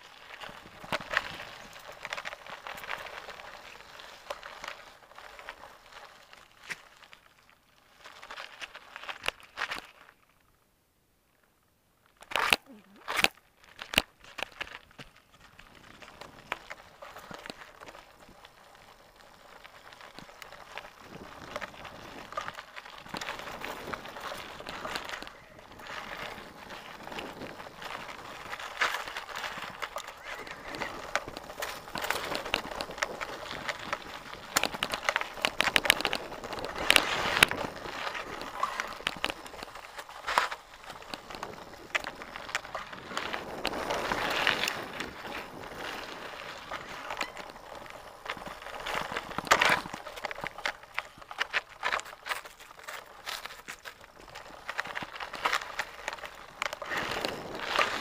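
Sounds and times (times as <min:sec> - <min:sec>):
bike tyres crunching over dirt: 0:00.0 - 0:10.6, 0:12.0 - 0:58.0.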